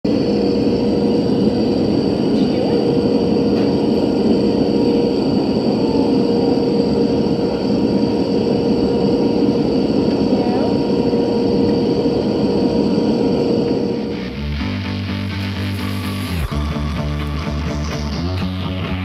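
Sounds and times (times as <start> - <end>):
steady hum: 0.0 - 19.0
rush of engines and air: 0.1 - 17.0.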